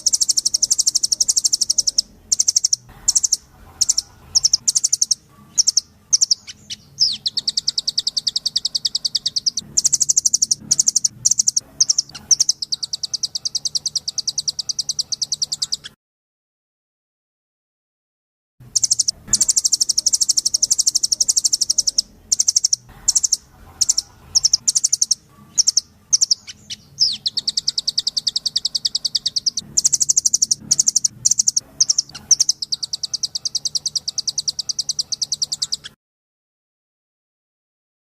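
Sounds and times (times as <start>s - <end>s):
songbird rapid trills: 0.0s - 15.9s, 18.7s - 35.9s.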